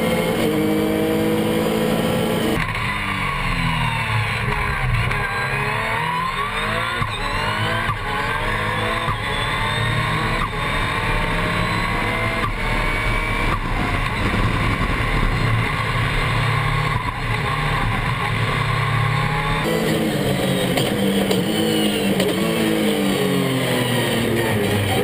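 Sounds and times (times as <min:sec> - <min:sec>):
race car engine at full throttle: 0:00.0 - 0:25.0.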